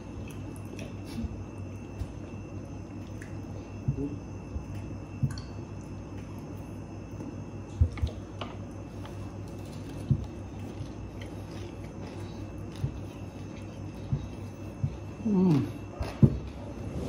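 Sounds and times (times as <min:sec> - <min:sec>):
food squishing: 0:00.0 - 0:16.7
steady low hum: 0:00.0 - 0:17.0.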